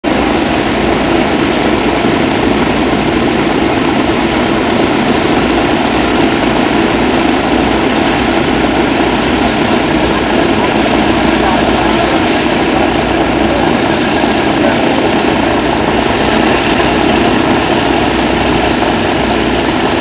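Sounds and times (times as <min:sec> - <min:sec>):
piston aircraft engine idling: 0:00.0 - 0:20.0.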